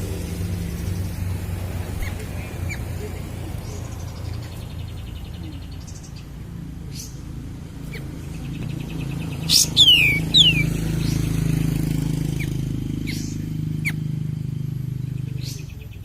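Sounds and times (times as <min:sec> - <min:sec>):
songbird buzzy trill and chirps: 0:00.2 - 0:16.0.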